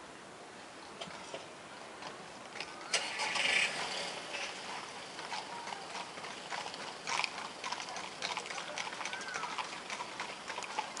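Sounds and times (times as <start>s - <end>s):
hooves clopping on pavement: 1.0s - 11.0s.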